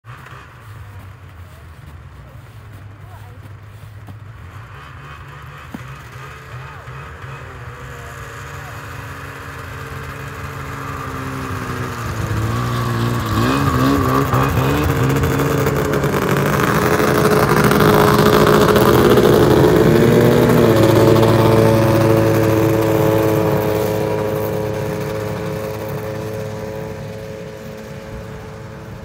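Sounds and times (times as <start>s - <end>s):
snowmobile engines revving: 0.0s - 29.0s.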